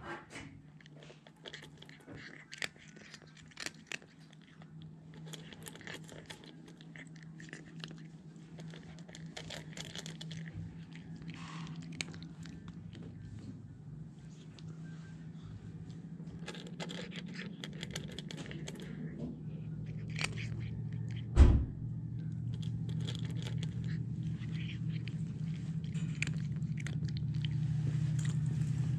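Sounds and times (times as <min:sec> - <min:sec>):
steady low hum: 0:00.0 - 0:28.9
kitten crunching dry kibble: 0:00.3 - 0:28.9.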